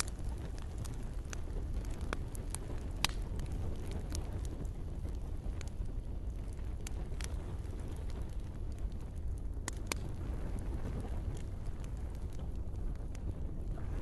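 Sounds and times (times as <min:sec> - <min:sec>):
campfire low rumble: 0:00.0 - 0:14.0
wood crackles and pops: 0:00.0 - 0:14.0.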